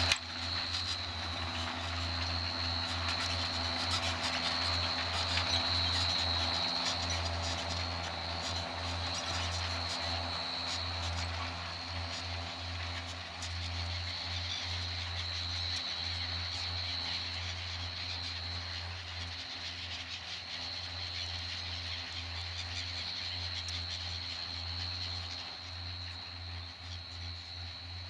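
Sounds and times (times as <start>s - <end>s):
distant tractor engines rumbling: 0.0s - 28.0s.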